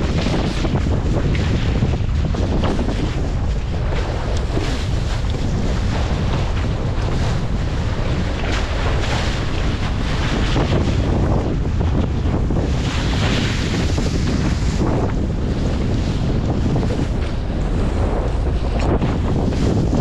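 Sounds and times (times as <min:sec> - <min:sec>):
water rushing and splashing: 0:00.0 - 0:20.0
wind buffeting microphone: 0:00.0 - 0:20.0.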